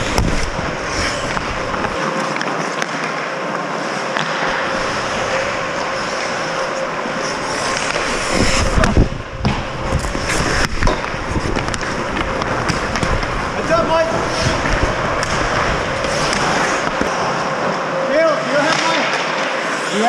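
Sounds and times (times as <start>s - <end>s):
skate blades scraping ice: 0.0s - 17.2s
hockey sticks and puck clacking: 0.0s - 17.8s, 18.6s - 20.0s.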